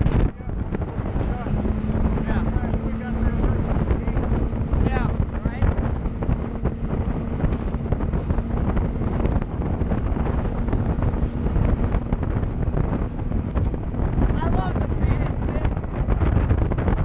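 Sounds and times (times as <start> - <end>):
boat engine running: 0.0 - 17.0
choppy water: 0.0 - 17.0
wind rushing over microphone: 0.0 - 17.0.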